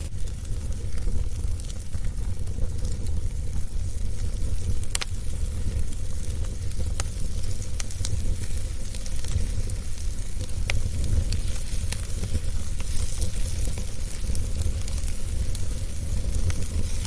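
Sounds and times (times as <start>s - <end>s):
fire crackling and popping: 0.0s - 17.0s
fire rumbling and hissing: 0.0s - 17.0s.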